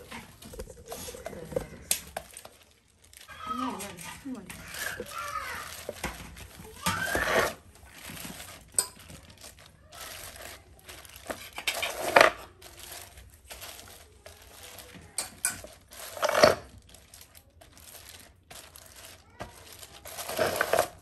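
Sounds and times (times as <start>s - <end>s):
plastic sheet crinkling: 0.0s - 21.0s.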